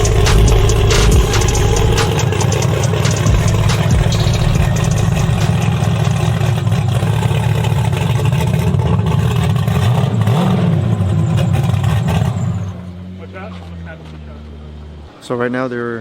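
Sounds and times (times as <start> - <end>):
engine revving: 0.0 - 16.0
truck engine idling roughly: 0.0 - 16.0.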